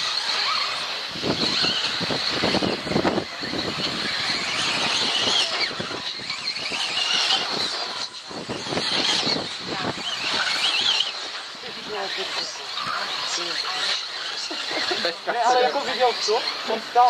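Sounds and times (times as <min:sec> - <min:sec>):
toy car motors whining: 0:00.0 - 0:17.0.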